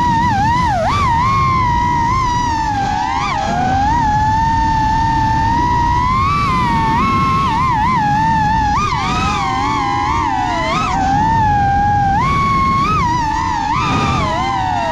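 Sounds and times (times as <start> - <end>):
drone motors whining: 0.0 - 14.9.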